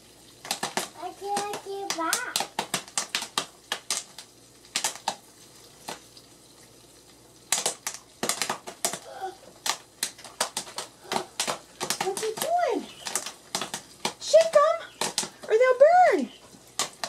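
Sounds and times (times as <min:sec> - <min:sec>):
popcorn popping: 0:00.4 - 0:06.1, 0:07.4 - 0:17.0.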